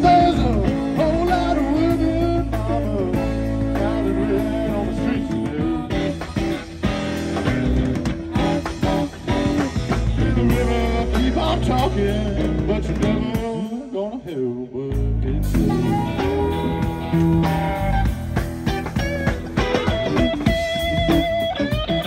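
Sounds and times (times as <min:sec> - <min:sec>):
harmonica: 0:00.0 - 0:12.1, 0:15.6 - 0:22.0
bass guitar: 0:00.0 - 0:22.0
drums: 0:00.0 - 0:22.0
electric guitars: 0:00.0 - 0:22.0.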